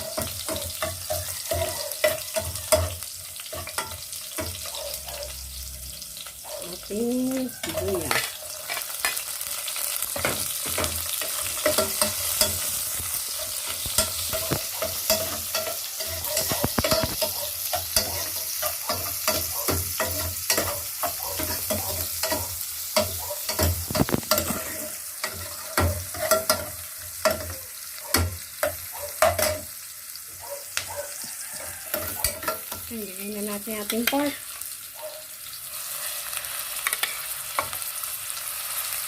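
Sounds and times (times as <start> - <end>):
onion sizzling in oil: 0.0 - 39.0.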